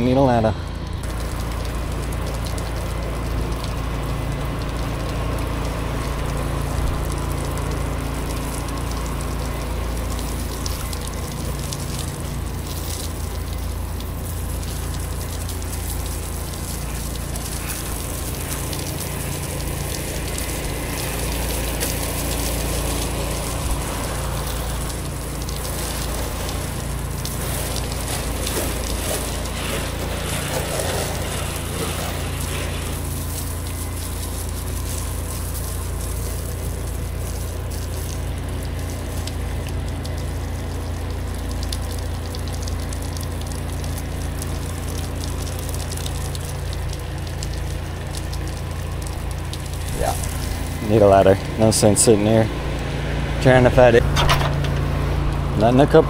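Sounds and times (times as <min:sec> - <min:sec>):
pressure washer engine running: 0:00.0 - 0:56.0
water spray hissing: 0:00.8 - 0:56.0.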